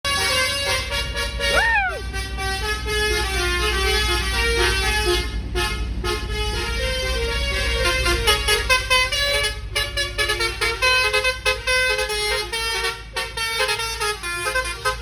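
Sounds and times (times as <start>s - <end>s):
musical truck horn tune: 0.0s - 15.0s
diesel engine idling: 0.1s - 15.0s.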